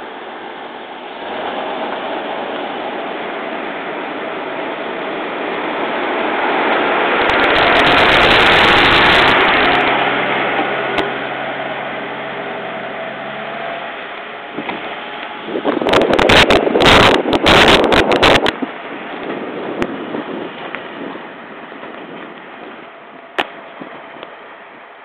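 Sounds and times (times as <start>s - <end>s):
diesel railcar engine humming: 0.0s - 25.0s
loud rush: 0.0s - 25.0s.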